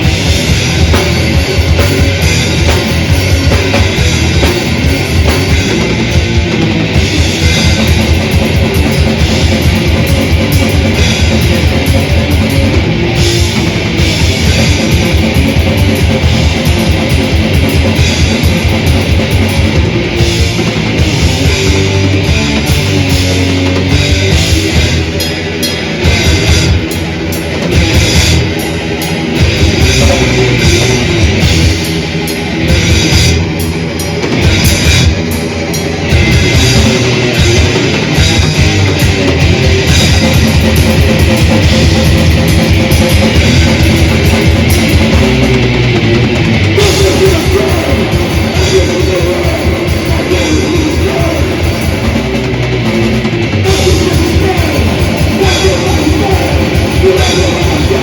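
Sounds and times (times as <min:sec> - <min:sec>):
bass guitar: 0:00.0 - 0:58.0
distorted electric guitars: 0:00.0 - 0:58.0
fast drumming: 0:00.0 - 0:58.0.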